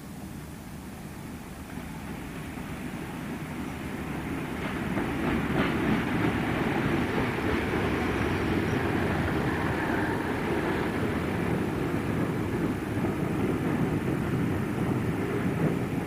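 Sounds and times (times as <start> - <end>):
diesel locomotive engine rumble: 0.0 - 16.0
train coaches rolling on track: 0.9 - 16.0.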